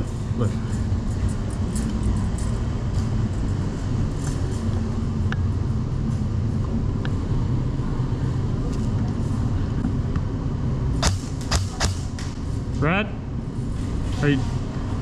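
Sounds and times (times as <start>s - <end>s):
low rumble of movement noise: 0.0s - 15.0s.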